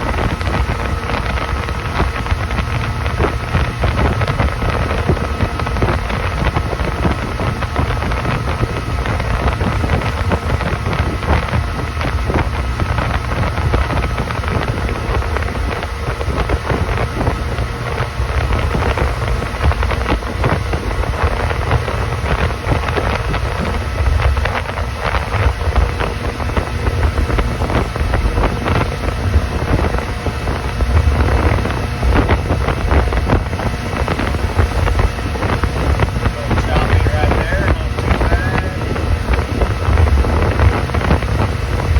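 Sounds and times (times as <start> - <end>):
motorboat engine running: 0.0 - 41.9
wind buffeting microphone: 0.0 - 41.9.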